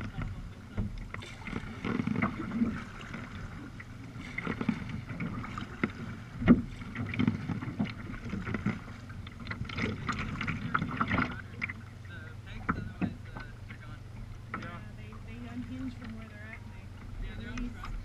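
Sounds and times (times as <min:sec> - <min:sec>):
kayak paddles splashing in water: 0:00.0 - 0:18.0.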